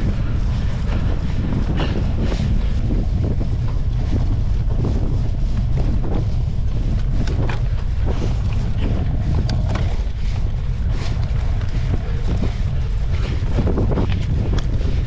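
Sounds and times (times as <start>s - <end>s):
bike knocking and rattling: 0.0s - 15.0s
wind buffeting a camera: 0.0s - 15.0s.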